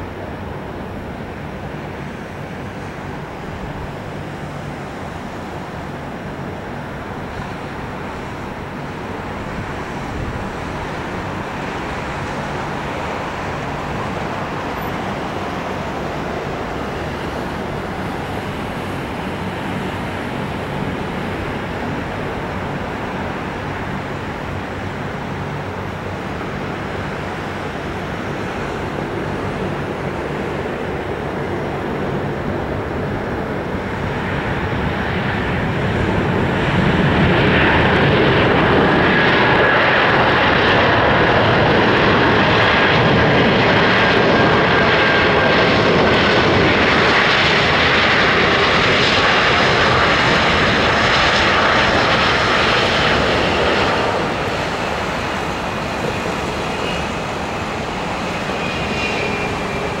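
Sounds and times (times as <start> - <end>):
jet engines roaring: 0.0 - 60.0.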